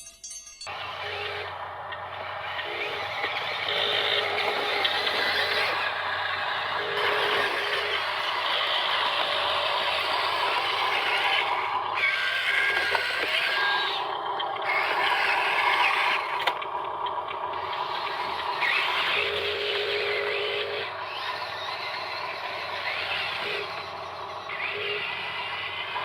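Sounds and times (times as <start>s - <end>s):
small electric motors whirring: 0.7s - 26.0s.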